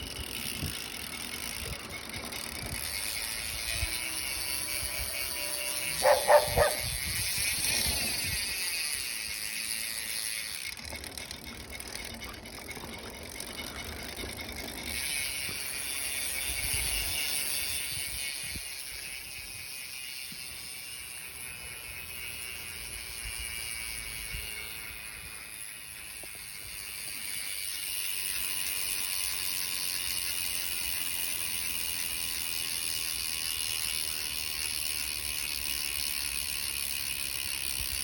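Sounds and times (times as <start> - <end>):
bicycle freehub ratcheting: 0.0 - 38.0.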